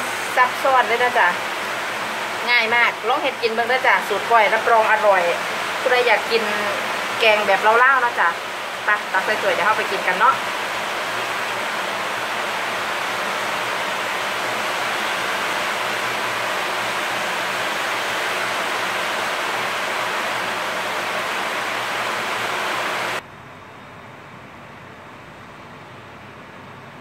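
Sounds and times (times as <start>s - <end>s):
heavy rain: 0.0s - 23.2s.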